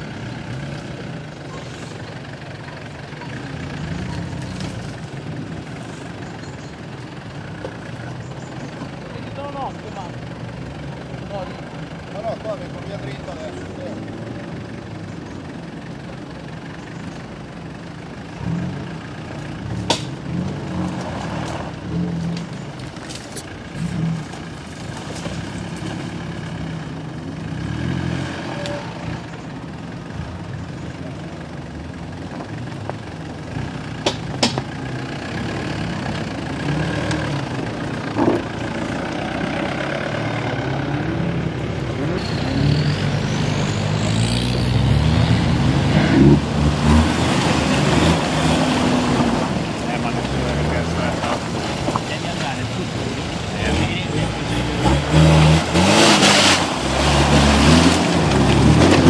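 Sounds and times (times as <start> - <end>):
suv engine revving in mud: 0.0 - 15.7, 18.2 - 59.0
suv engine running low revs: 0.0 - 59.0.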